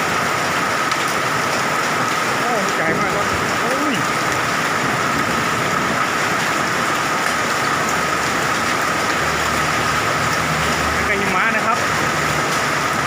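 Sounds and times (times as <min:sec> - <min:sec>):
hail and heavy rain on a roof: 0:00.0 - 0:13.0.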